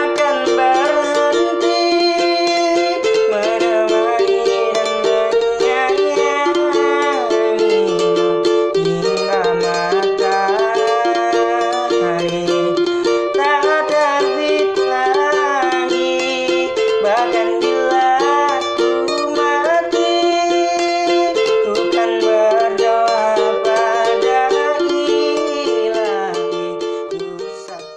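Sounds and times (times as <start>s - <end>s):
person singing: 0.0s - 27.9s
strummed string instrument: 0.0s - 27.9s.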